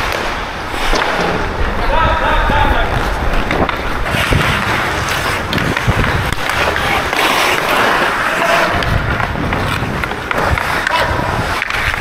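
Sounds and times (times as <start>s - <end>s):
skate blades scraping on ice: 0.0s - 12.0s.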